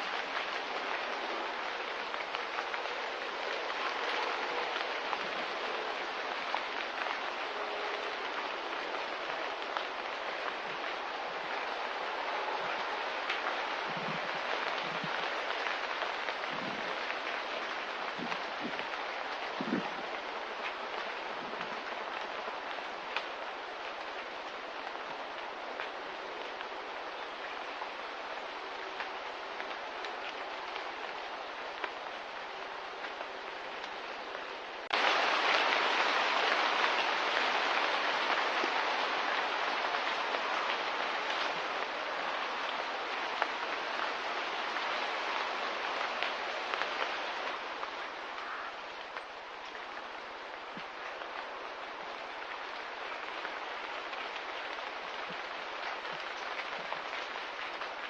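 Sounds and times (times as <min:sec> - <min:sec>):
steady hissing outdoor ambience: 0:00.0 - 0:58.0.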